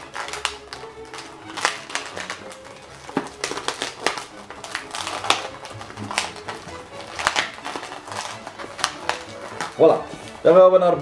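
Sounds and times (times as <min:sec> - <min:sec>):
balloon squeaking while twisted: 0:00.0 - 0:11.0
quiet background music: 0:00.0 - 0:11.0.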